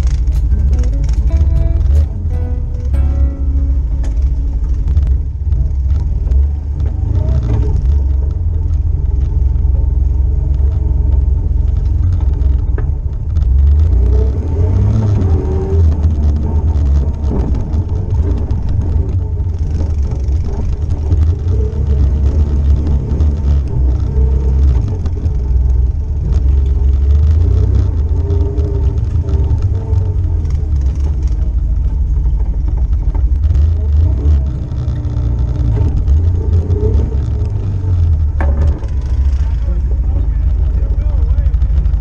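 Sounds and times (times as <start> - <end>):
atv engine rumbling: 0.0 - 42.0.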